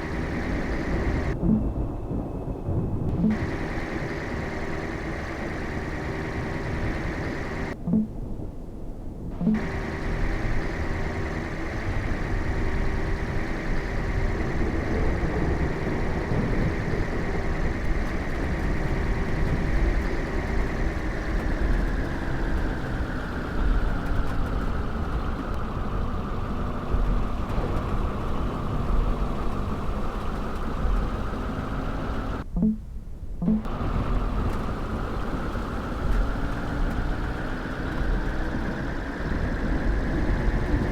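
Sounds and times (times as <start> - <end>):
car whine dropping in pitch: 0.0 - 8.2, 9.3 - 32.8, 33.4 - 40.9
car engine and road rumble: 0.0 - 40.9.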